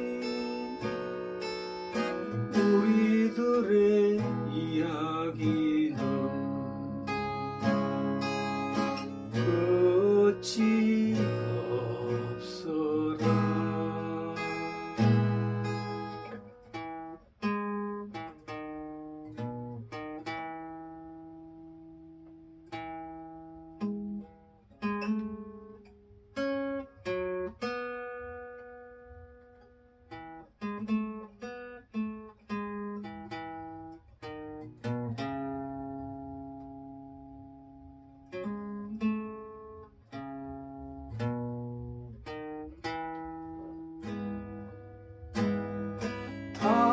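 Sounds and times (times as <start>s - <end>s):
acoustic guitar playing: 0.0s - 46.9s.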